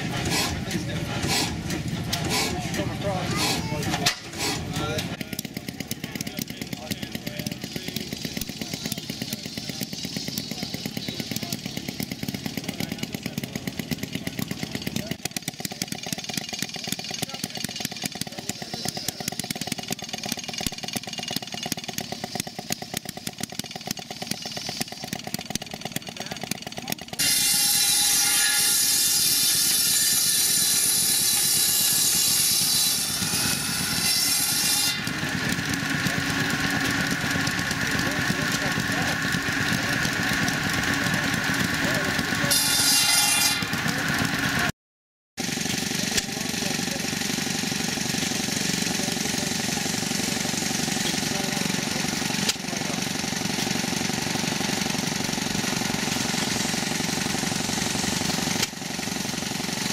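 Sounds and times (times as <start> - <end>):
small gasoline engines popping: 0.0 - 27.3, 35.0 - 42.5, 43.6 - 44.7, 45.4 - 59.9
circular saw cutting log: 0.0 - 44.7, 45.4 - 59.9.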